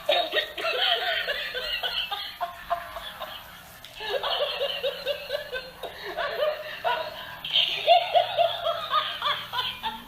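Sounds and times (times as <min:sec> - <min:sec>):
laughing toy cackling: 0:00.0 - 0:10.0.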